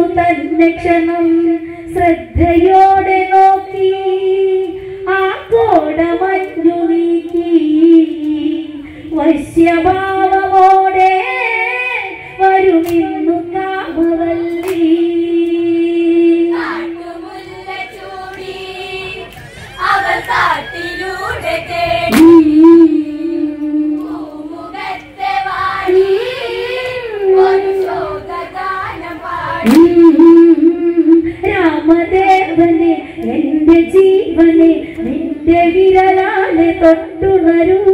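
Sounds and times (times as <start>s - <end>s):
women and girls singing together: 0.0s - 37.9s.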